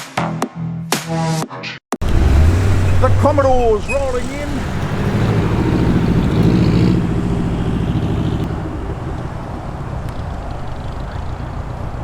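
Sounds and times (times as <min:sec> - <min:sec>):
car engine passing by: 0:02.0 - 0:12.0
distant traffic: 0:02.0 - 0:12.0
wind buffeting microphone: 0:02.0 - 0:12.0.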